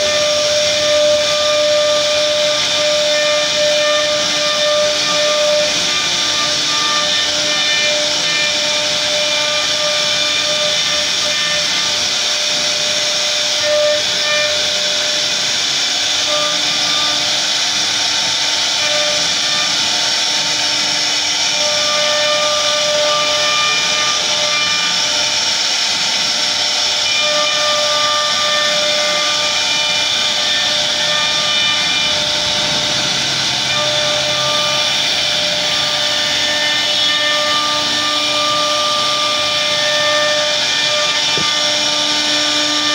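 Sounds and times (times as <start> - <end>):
router spindle whining: 0.0 - 42.9.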